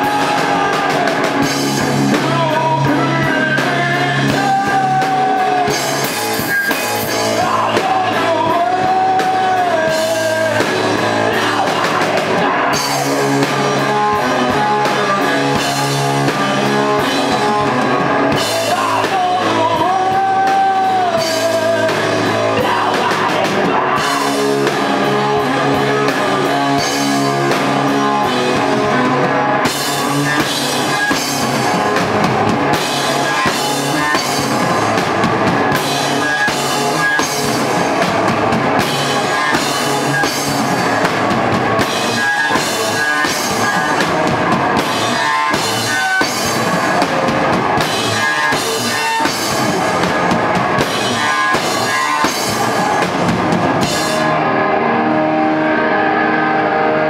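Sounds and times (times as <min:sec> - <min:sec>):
drums and cymbals beat: 0:00.0 - 0:54.4
rock band playing live: 0:00.0 - 0:57.0.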